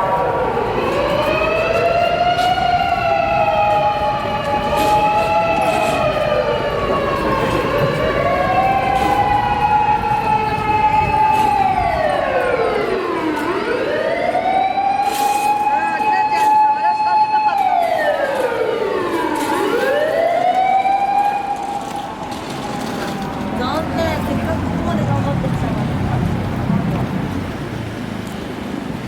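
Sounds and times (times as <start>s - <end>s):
fire engine sirens wailing: 0.0s - 29.0s.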